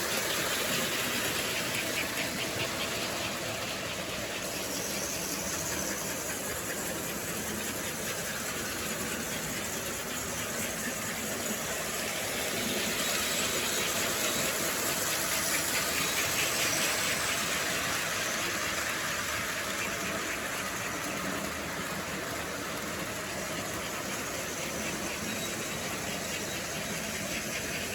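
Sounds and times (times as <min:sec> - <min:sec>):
model train whirring and clattering: 0:00.0 - 0:27.9.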